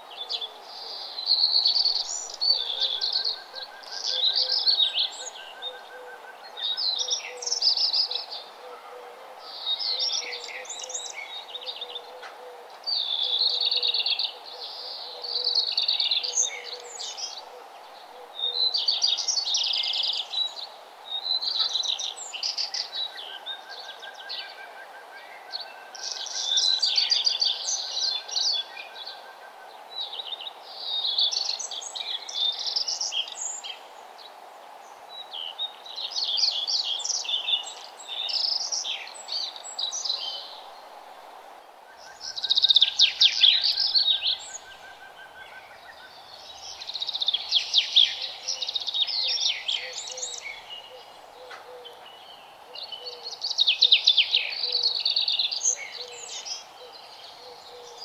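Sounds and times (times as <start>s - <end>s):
songbird singing: 0.0s - 58.0s
steady low hiss: 0.0s - 58.0s.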